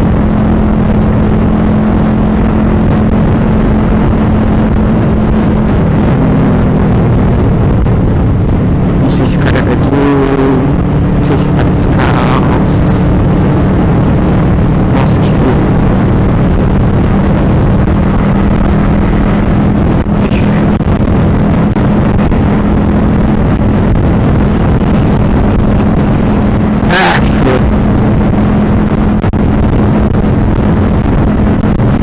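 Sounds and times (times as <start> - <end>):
motorcycle engine running: 0.0 - 32.0
rushing wind noise: 0.0 - 32.0.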